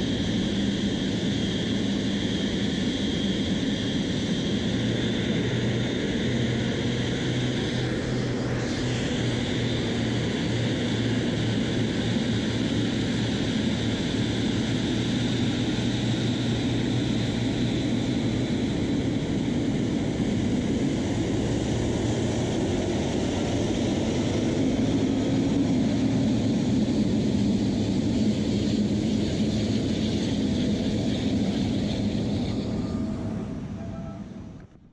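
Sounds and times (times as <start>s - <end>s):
jet engines rumbling with fan whine: 0.0s - 34.9s.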